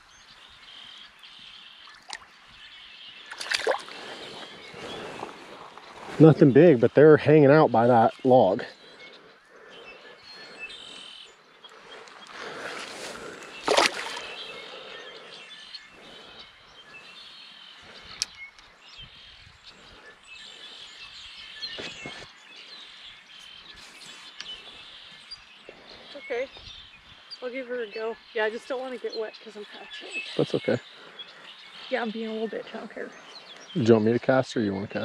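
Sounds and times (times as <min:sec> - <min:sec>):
birds chirping and calling: 0:00.0 - 0:35.0.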